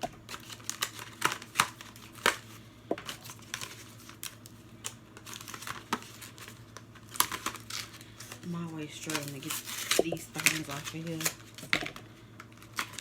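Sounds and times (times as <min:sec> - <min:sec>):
packaging crinkling and tearing: 0:00.3 - 0:13.0.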